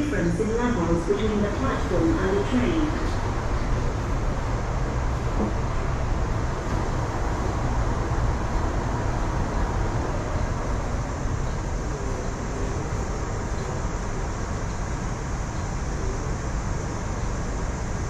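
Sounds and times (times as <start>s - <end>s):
train carriage rumble and hiss: 0.0s - 18.0s.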